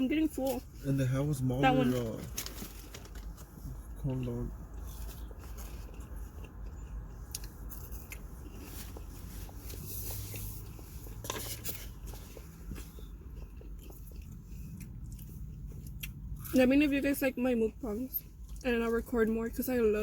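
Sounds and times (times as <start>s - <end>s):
low steady hum: 0.0s - 20.0s
chewing and crunching food: 1.9s - 16.7s, 18.2s - 20.0s.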